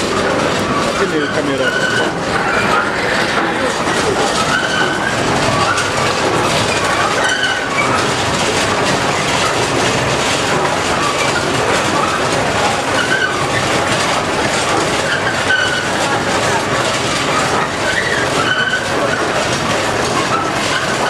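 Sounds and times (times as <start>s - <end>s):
high machinery squeaks: 0.0s - 21.0s
stone rollers clattering and rumbling: 0.0s - 21.0s.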